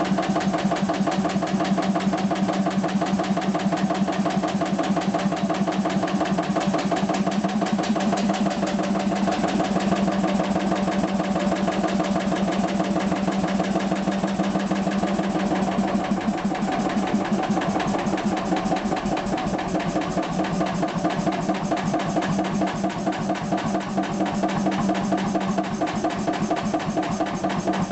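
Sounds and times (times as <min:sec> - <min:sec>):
stationary engine running: 0:00.0 - 0:27.9.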